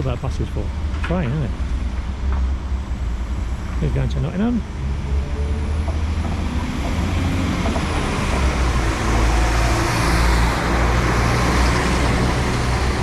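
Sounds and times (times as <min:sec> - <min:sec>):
diesel train engine running: 0:00.0 - 0:13.0.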